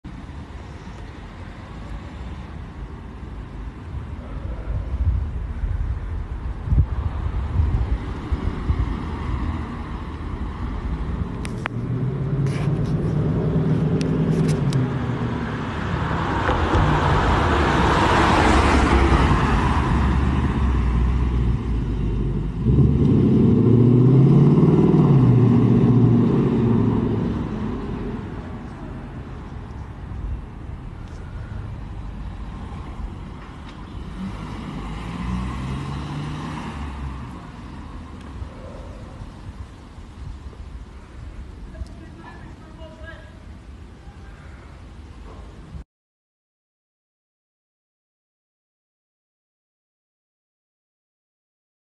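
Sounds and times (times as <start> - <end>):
cars driving past: 0.1 - 42.1.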